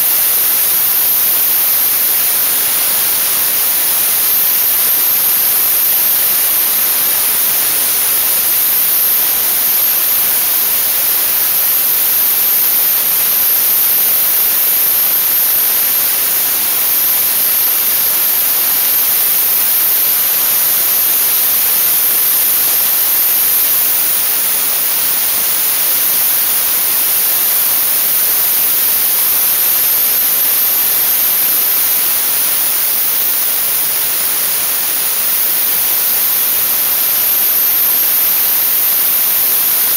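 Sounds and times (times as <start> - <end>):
dry-ice blasting nozzle hiss: 0.0 - 39.9.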